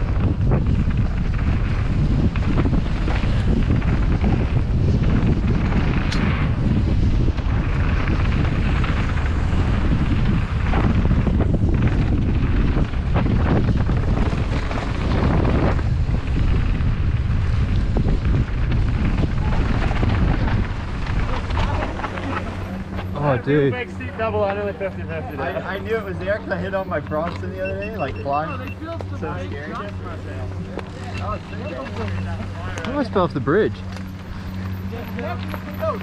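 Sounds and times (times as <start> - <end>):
tyres on dirt and gravel: 0.0 - 36.0
wind buffeting microphone: 0.0 - 36.0.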